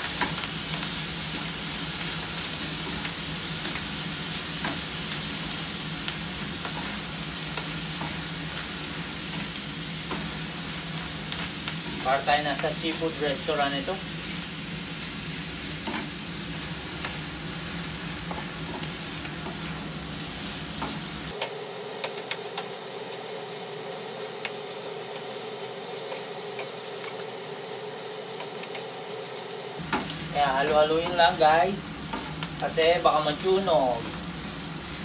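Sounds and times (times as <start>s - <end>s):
rice sizzling in a frying pan: 0.0s - 35.0s.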